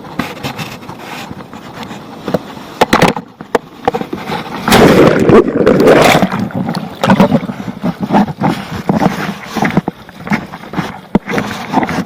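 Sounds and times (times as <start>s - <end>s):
water splashing against kayak: 0.0s - 12.0s.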